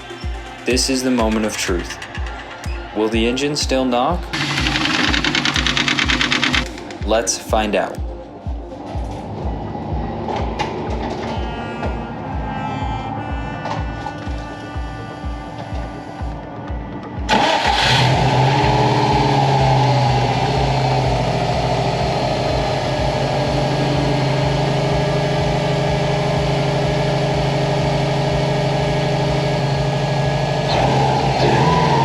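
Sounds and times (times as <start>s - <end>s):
car engine starting and idling: 0.0s - 11.5s, 16.9s - 32.0s.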